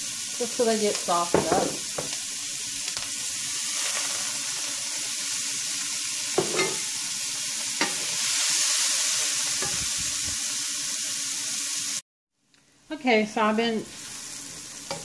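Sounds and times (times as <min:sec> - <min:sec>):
vegetables sizzling in oil: 0:00.0 - 0:12.0, 0:12.9 - 0:15.0.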